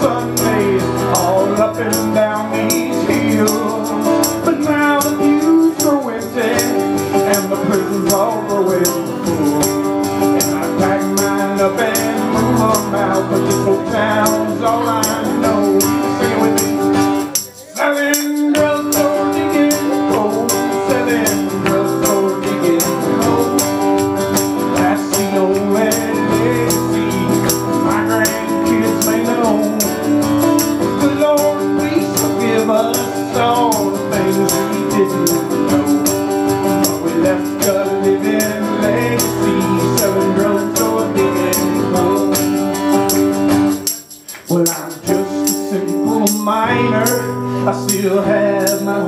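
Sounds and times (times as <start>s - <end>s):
strummed acoustic guitar: 0.0s - 49.0s.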